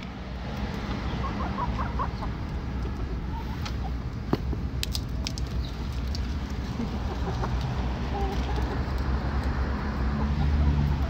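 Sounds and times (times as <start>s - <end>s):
chickens clucking: 0.7s - 4.1s, 5.2s - 11.0s.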